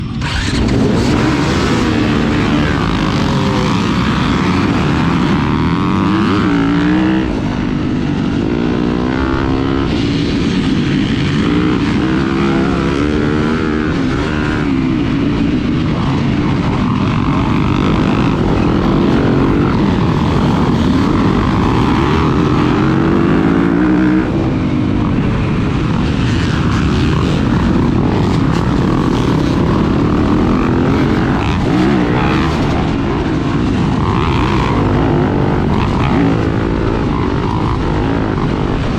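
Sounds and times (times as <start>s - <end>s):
constant rushing noise: 0.0s - 38.9s
dirt bike engine revving: 0.0s - 38.9s.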